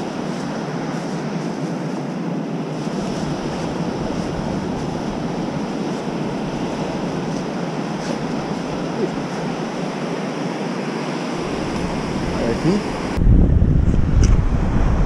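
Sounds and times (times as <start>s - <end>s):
surf breaking on beach: 0.0s - 13.4s
wind noise on microphone: 0.0s - 15.0s.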